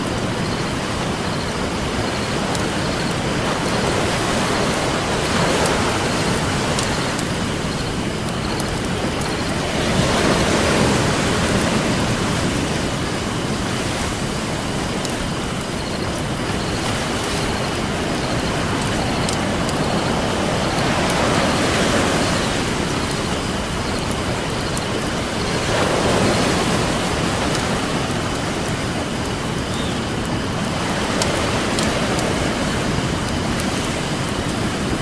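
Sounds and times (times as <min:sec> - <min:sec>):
campfire crackling: 0:00.0 - 0:35.0
ocean surf washing in: 0:00.0 - 0:35.0.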